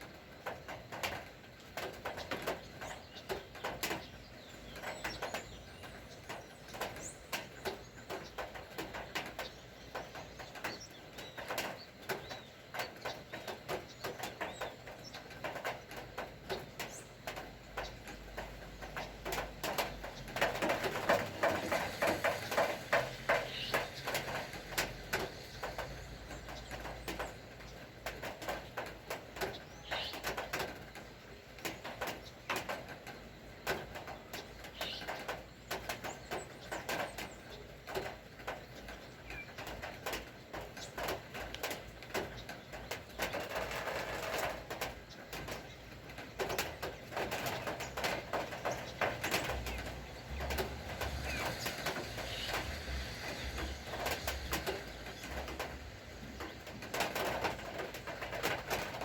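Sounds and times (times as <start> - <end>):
rain dripping: 0.0 - 59.0.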